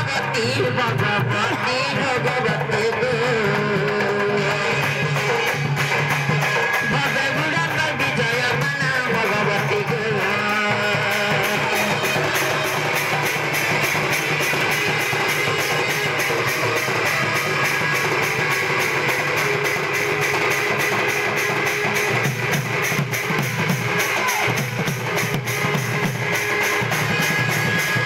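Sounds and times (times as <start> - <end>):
barrel drum fast beat: 0.0 - 28.0.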